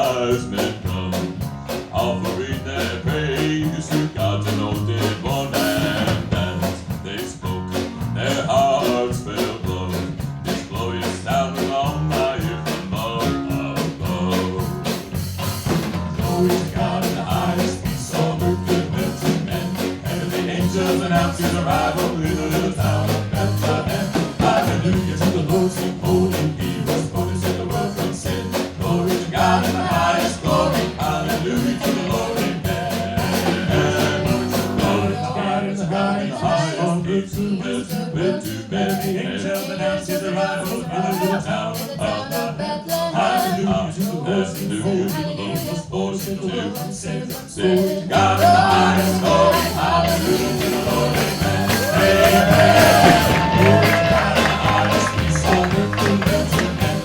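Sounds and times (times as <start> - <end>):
instrumental band music: 0.0 - 35.6, 37.3 - 57.0.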